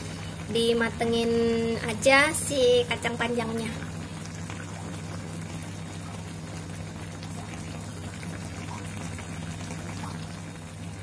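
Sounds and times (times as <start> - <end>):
broth bubbling in a wok: 0.0 - 11.0
steady low hum: 0.0 - 11.0.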